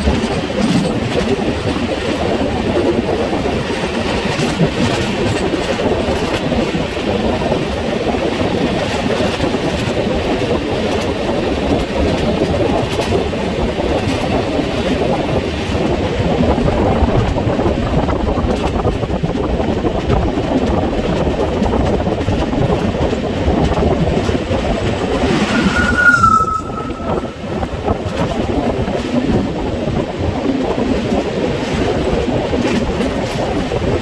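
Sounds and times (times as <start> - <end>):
train rolling noise: 0.0 - 34.0.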